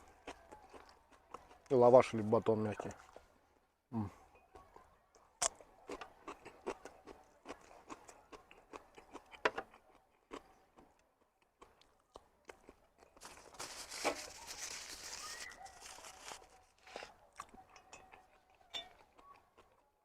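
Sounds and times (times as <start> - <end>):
person chewing food: 0.0 - 1.7, 4.1 - 20.0.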